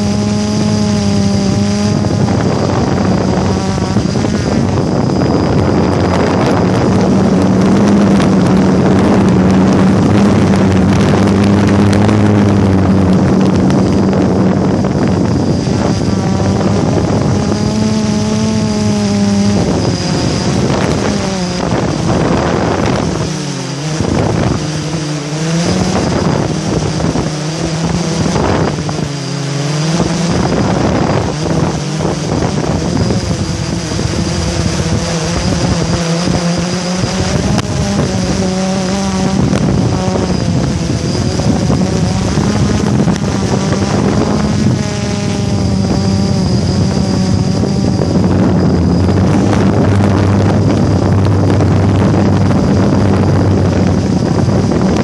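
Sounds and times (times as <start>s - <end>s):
drone propellers humming: 0.0s - 55.0s
wind rushing over microphone: 0.0s - 55.0s.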